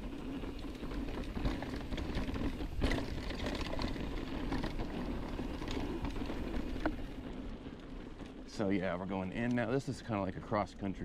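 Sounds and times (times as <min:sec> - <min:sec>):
small rattles: 0:00.0 - 0:10.0
bike tyres rolling on dirt: 0:00.0 - 0:11.0.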